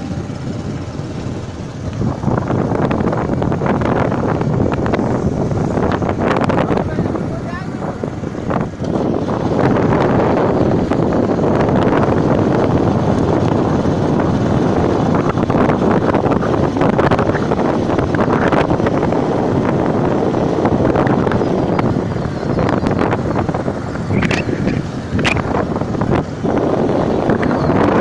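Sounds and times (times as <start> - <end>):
wind blowing across microphone: 0.0 - 28.0.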